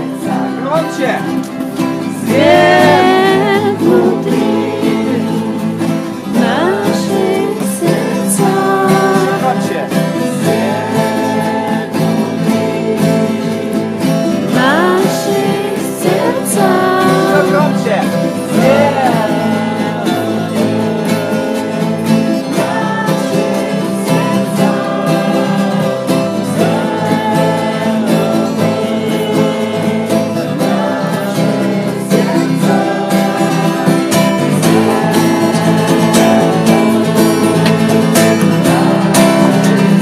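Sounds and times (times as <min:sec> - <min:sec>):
people singing loudly: 0:00.0 - 0:40.0
strummed acoustic guitar: 0:00.0 - 0:40.0.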